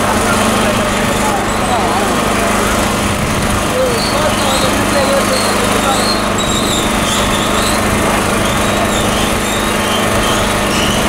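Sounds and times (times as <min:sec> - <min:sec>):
motor-like drone: 0:00.0 - 0:11.0.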